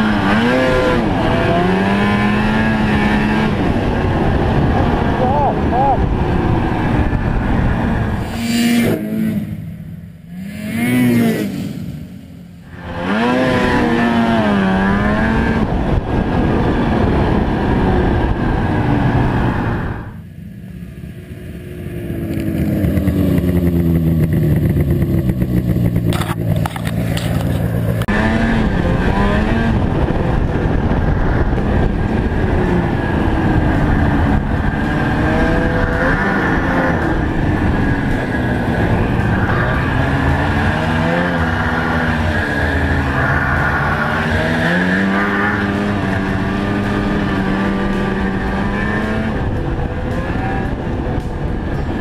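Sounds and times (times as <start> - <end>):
snowmobile engine revving: 0.0 - 9.7, 10.3 - 20.1, 22.1 - 52.0.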